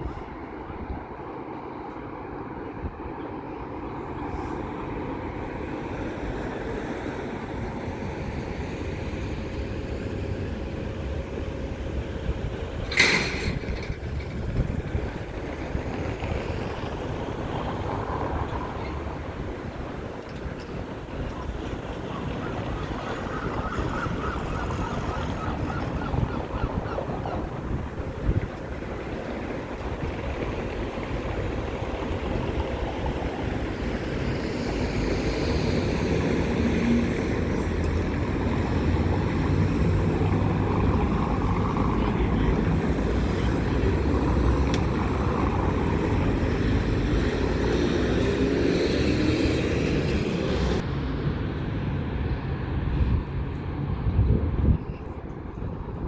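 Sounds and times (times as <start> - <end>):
engine droning: 0.2 - 52.8.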